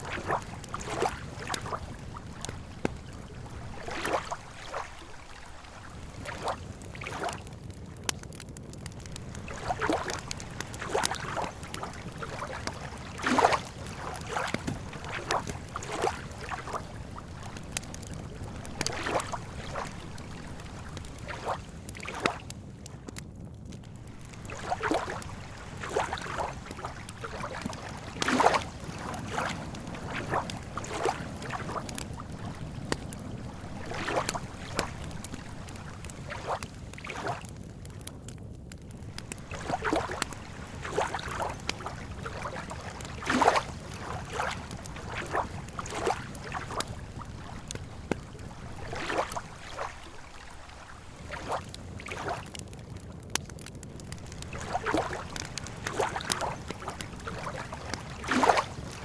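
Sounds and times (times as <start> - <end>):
water lapping at a shore: 0.0 - 59.0.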